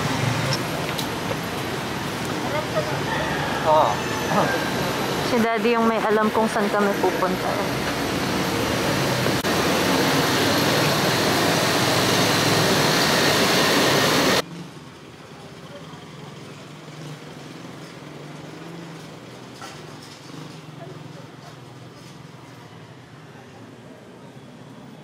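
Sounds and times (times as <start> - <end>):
street traffic roar: 0.0 - 25.0.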